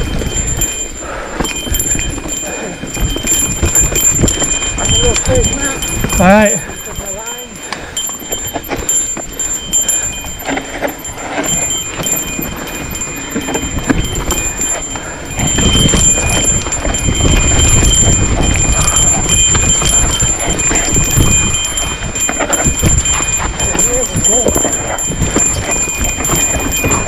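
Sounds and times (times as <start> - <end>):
bike rattling and clattering: 0.0 - 27.0
wind rumble on microphone: 0.0 - 27.0.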